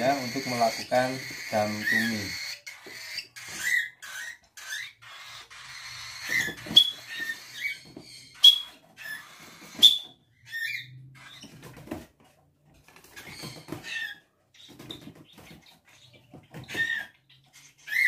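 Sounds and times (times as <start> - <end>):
budgerigars chirping and squeaking: 0.0 - 12.0, 12.9 - 18.0.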